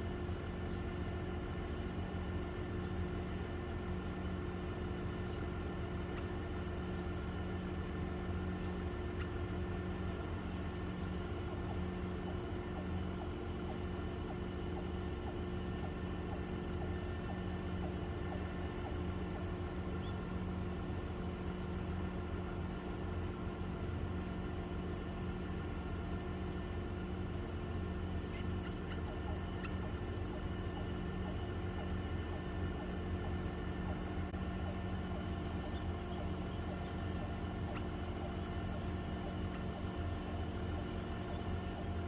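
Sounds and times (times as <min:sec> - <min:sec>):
electrical hum with whine: 0:00.0 - 0:42.0.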